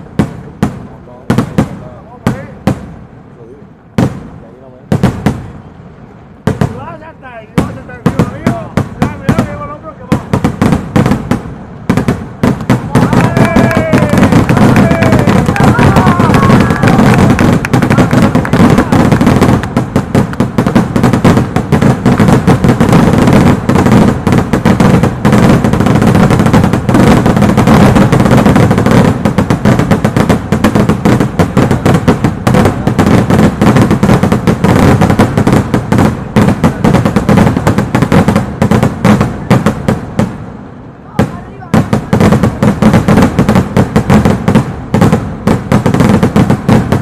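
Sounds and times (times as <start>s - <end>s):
fireworks and firecrackers banging: 0.0s - 47.0s.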